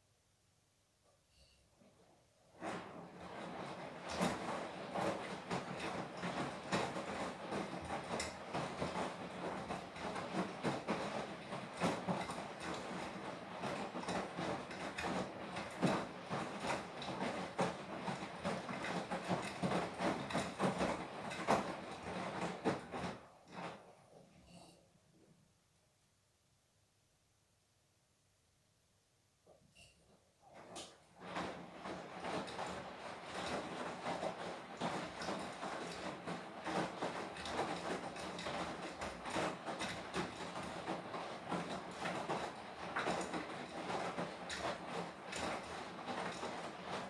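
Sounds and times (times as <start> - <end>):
laundry tumbling in washing machine: 1.8 - 24.6, 30.4 - 47.0.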